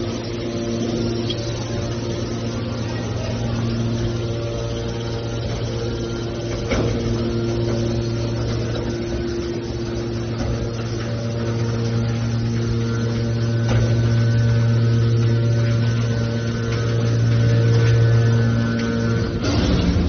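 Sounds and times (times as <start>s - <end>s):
hydraulic motor humming: 0.0s - 20.0s.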